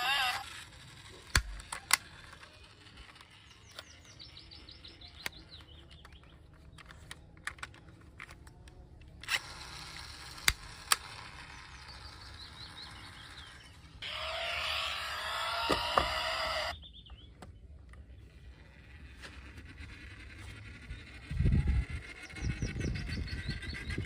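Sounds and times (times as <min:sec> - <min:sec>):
toy cars clicking and tapping: 0:00.0 - 0:16.7, 0:17.8 - 0:24.0.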